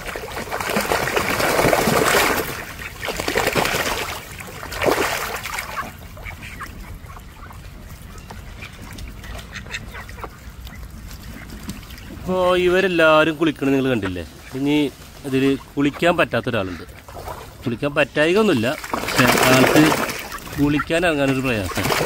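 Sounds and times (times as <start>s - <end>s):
ducks quacking: 0.0s - 22.0s
ducks splashing in water: 0.0s - 22.0s.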